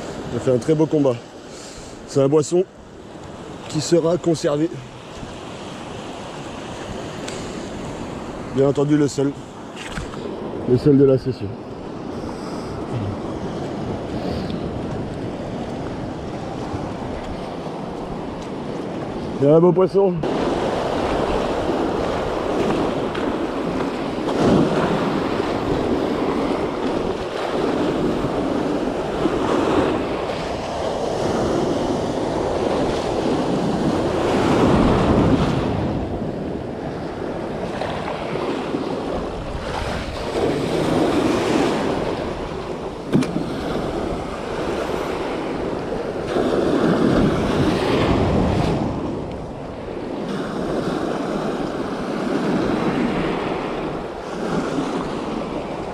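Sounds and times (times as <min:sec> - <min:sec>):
sea surf breaking over rocks: 0:00.0 - 0:55.9
wind buffeting microphone: 0:02.8 - 0:55.9.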